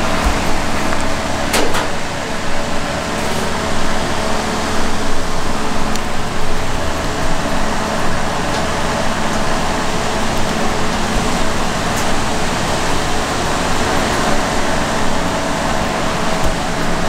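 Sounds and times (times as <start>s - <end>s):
machinery whirring: 0.0s - 17.0s.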